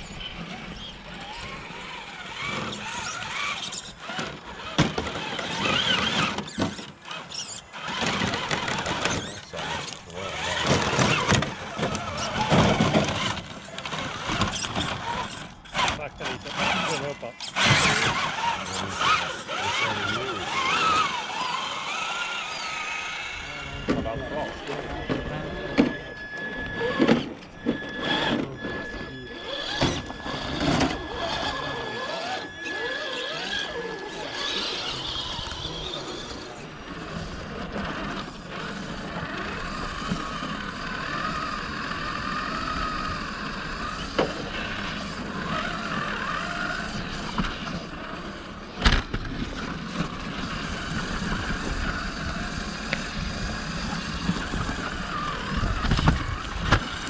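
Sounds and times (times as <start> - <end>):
electric motor whining: 0.0 - 57.0.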